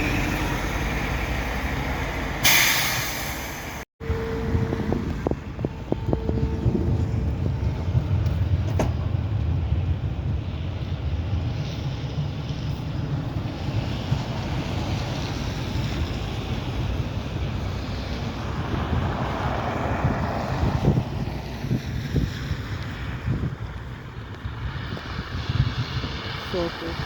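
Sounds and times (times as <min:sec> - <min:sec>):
road vehicles running: 0:00.0 - 0:27.0
wind rumbling on microphone: 0:03.4 - 0:27.0.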